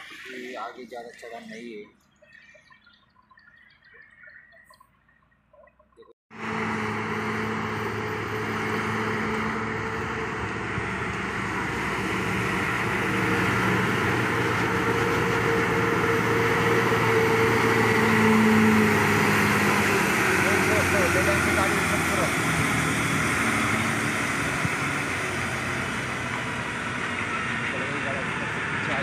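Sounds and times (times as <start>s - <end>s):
truck diesel engines droning: 0.0s - 2.5s, 6.3s - 29.0s.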